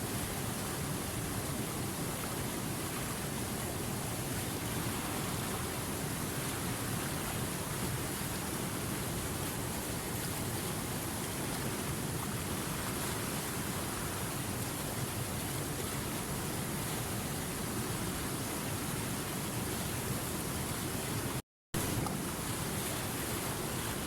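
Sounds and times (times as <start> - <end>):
river water over rocks: 0.0 - 24.0.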